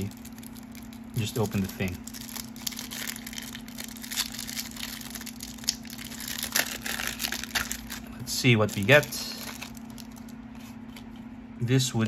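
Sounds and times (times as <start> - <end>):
plastic wrapper crinkling: 0.0 - 11.2.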